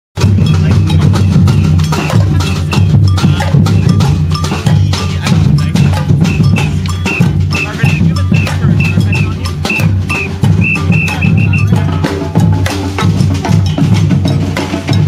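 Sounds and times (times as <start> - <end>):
quick drum strikes: 0.2 - 15.0
stepping bass line: 0.2 - 15.0.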